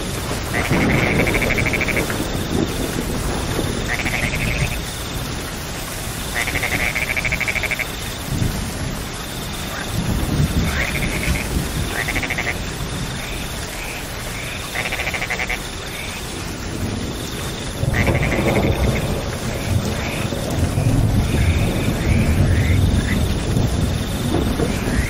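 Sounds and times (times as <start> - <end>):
steady rain falling: 0.0 - 25.0
frogs calling in buzzing trills: 0.2 - 25.0.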